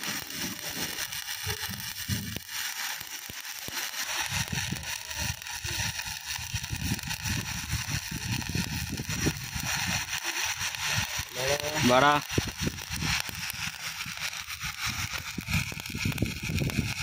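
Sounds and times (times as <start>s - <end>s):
welding arc crackling sizzle: 0.0s - 17.0s.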